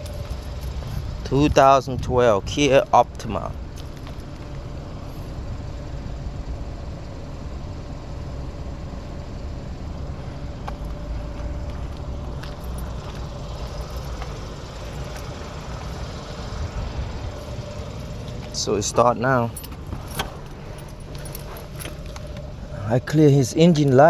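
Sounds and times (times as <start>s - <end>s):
car engine running: 0.0s - 24.0s
faint steady tone: 0.0s - 24.0s.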